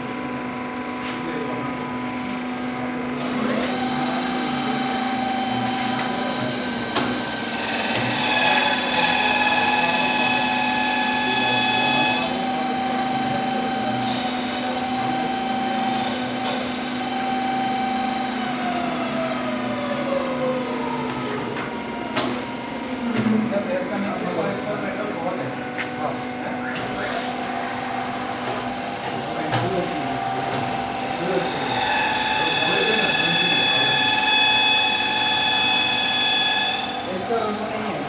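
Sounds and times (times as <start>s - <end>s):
machine spindle whine: 0.1s - 38.0s.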